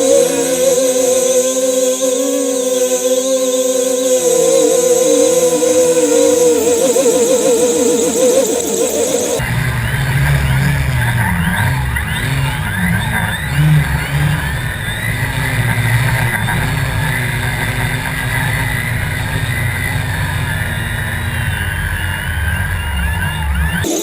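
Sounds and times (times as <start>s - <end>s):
drone motors and propellers: 0.0s - 24.0s.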